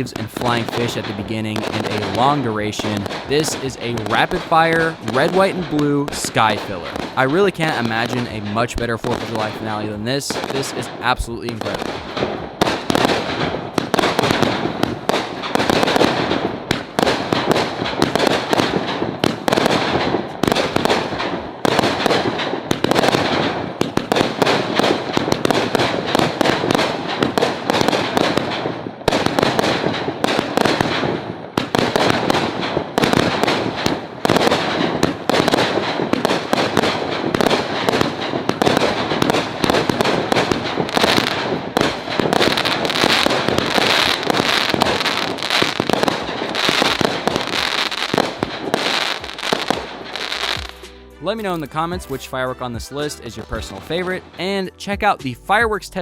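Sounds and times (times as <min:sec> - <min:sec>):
firework cake rapid-fire shots: 0:00.0 - 0:51.0.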